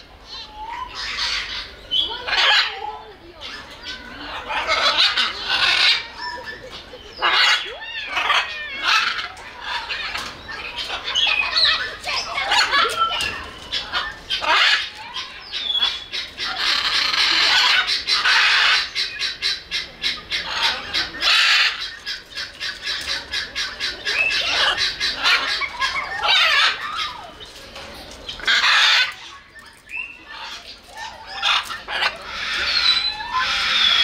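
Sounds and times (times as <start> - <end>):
macaw squawking: 0.4 - 27.4, 28.2 - 34.0.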